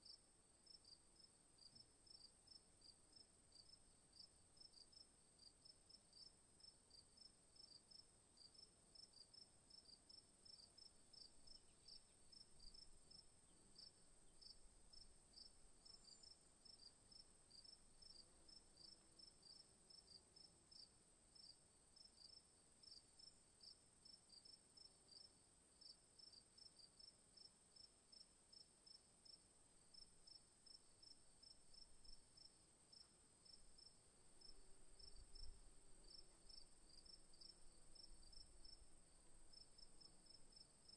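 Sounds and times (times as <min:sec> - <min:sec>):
crickets chirping: 0:06.1 - 0:40.9.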